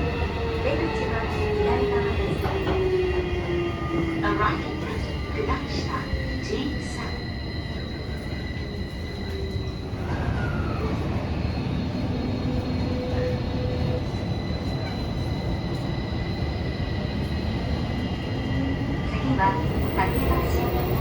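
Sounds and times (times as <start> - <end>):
train wheel and rail rumble: 0.0 - 21.0.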